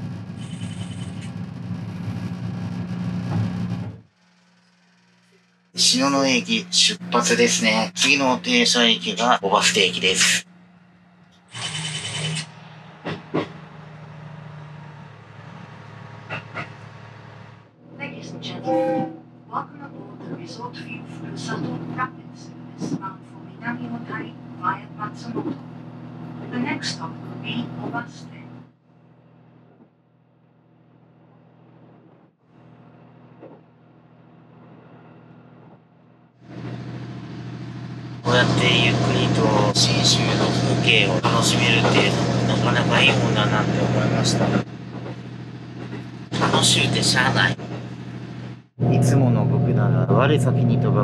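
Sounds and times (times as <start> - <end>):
railcar engine hum: 0.0 - 4.1, 5.8 - 29.8, 31.5 - 51.0.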